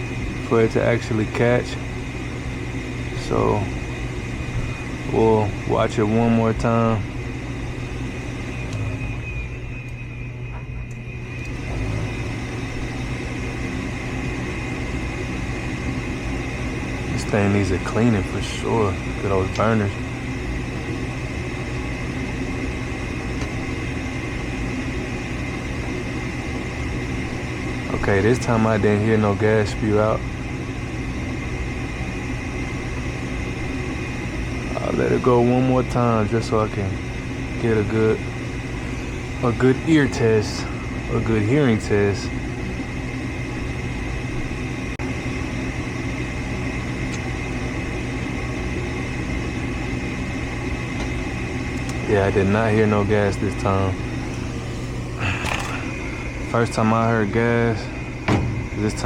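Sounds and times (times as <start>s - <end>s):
furnace humming: 0.0s - 59.0s.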